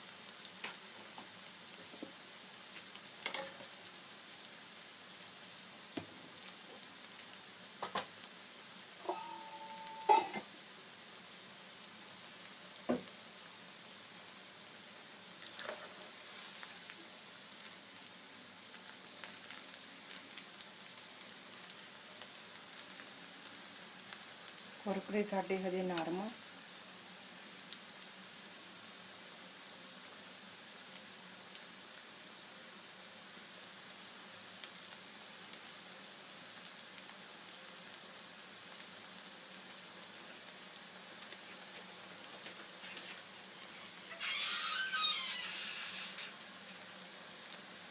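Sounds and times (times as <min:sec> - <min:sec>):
deep-frying sizzle with crackles: 0:00.0 - 0:47.9.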